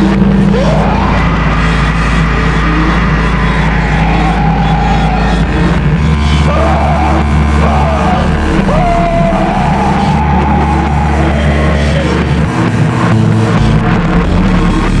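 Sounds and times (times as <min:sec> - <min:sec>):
harsh noise industrial music: 0:00.0 - 0:15.0.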